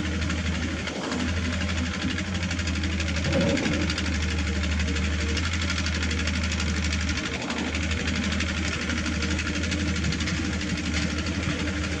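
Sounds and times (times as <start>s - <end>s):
diesel engine knocking: 0.0s - 12.0s.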